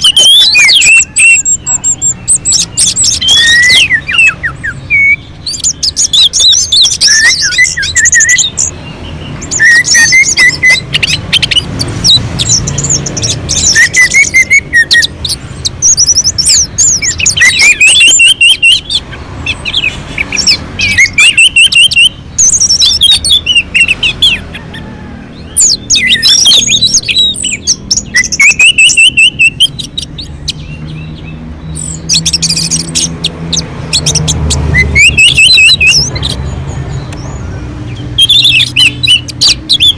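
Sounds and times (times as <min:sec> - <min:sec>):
thrush singing whistled phrases: 0:00.0 - 0:36.5, 0:37.9 - 0:39.9.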